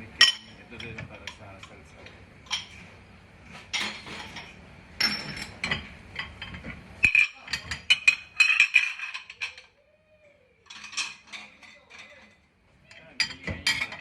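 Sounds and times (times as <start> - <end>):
dishes clinking and clattering: 0.2 - 2.9, 3.5 - 9.8, 10.6 - 14.0.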